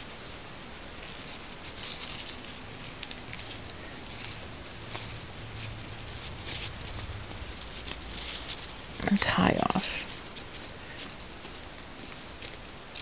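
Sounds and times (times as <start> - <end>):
fingers rustling ribbon: 0.0 - 13.0
low steady hum: 0.0 - 13.0.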